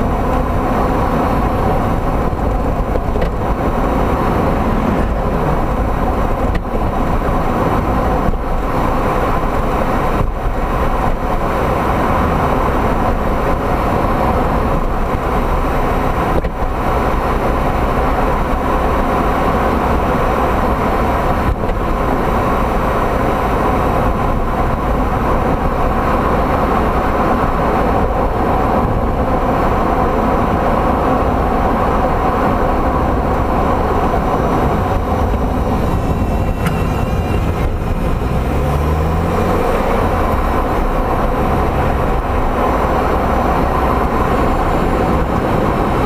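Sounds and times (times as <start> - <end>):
car rumble and running noise: 0.0 - 46.0.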